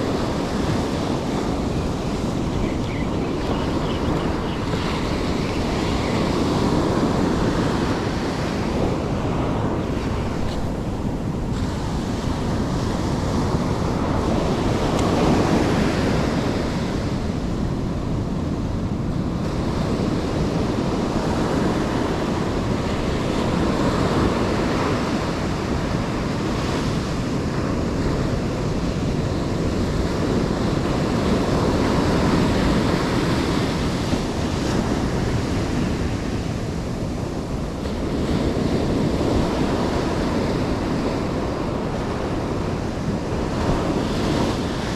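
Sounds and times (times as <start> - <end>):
ocean surf washing on beach: 0.0 - 44.9
wind buffeting microphone: 0.0 - 44.9.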